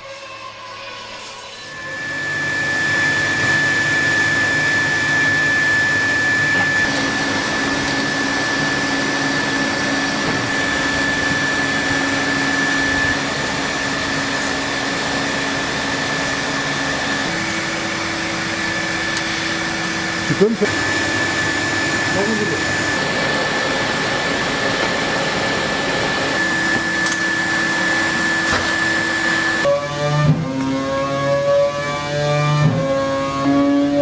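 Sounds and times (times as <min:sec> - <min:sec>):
high whine: 0:00.0 - 0:31.8.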